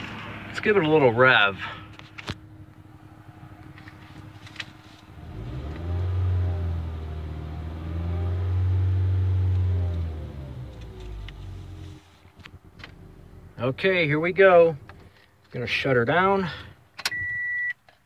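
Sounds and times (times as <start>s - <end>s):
car engine revving: 0.0s - 15.1s.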